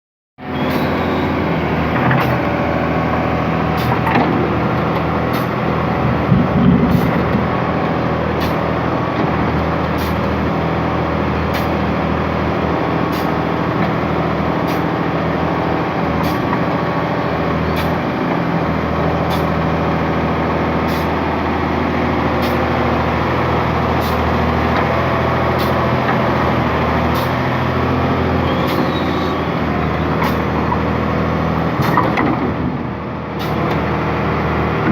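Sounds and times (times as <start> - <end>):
excavator diesel engine running: 0.4 - 34.9.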